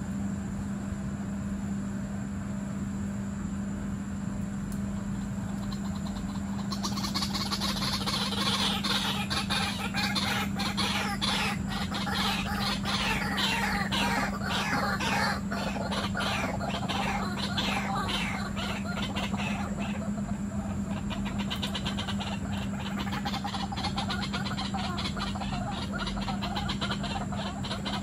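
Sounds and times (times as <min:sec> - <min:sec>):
steady low hum: 0:00.0 - 0:28.0
birds clucking chatter: 0:04.8 - 0:28.0.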